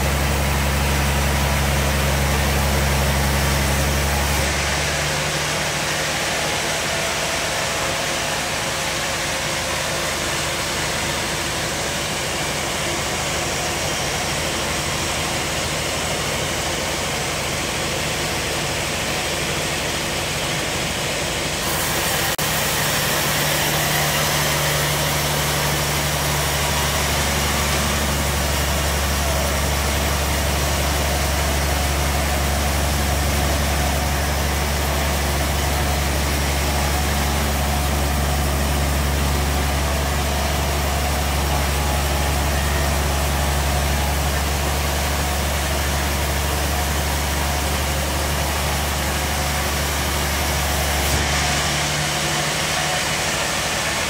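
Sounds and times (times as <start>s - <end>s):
bandsaw machine hum: 0.0s - 54.0s.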